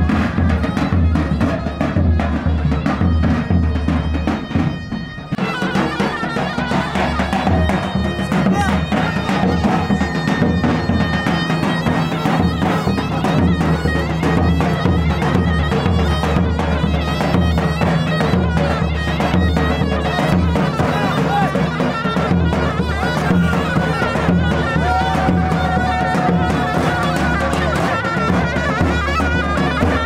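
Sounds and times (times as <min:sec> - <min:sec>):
large drum beats: 0:00.0 - 0:30.0
reed pipe melody: 0:00.0 - 0:30.0.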